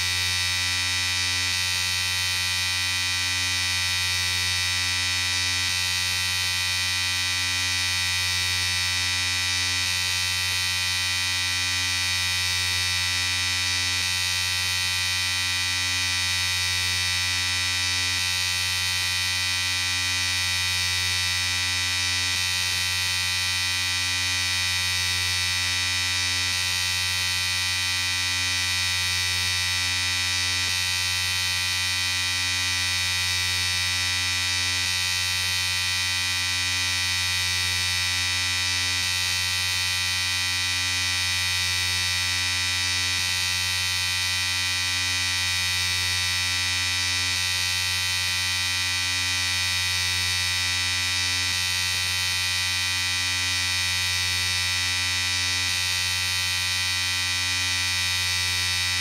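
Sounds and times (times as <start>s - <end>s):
electric shaver buzzing: 0.0s - 59.0s.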